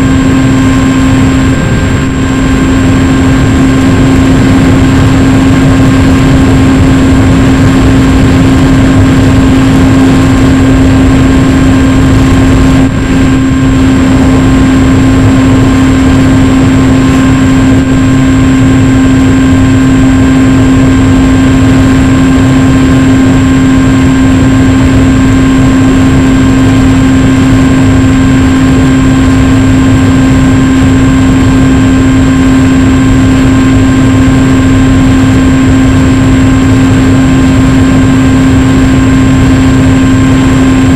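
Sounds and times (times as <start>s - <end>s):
aircraft motor and propeller: 0.0s - 40.9s
heavy rushing noise: 0.0s - 40.9s.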